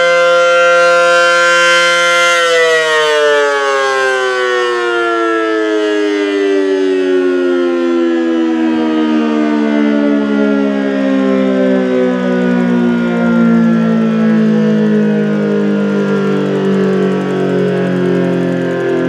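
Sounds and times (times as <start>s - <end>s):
warning siren pitch sliding down: 0.0s - 19.0s.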